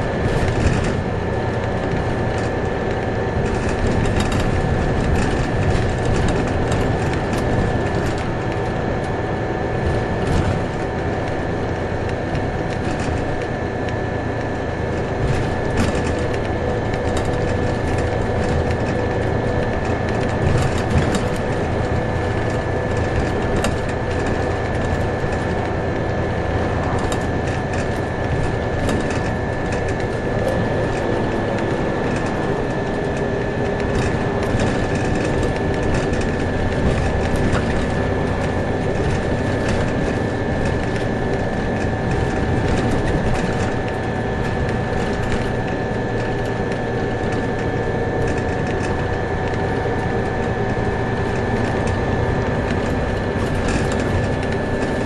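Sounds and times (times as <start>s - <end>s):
bus engine and road rumble: 0.0s - 55.0s
thin steady whine: 0.0s - 55.0s.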